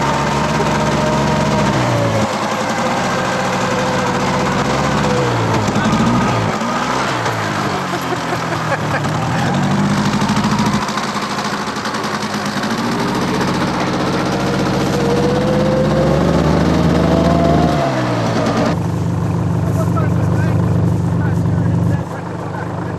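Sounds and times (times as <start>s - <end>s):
vehicle engine running: 0.0s - 22.9s.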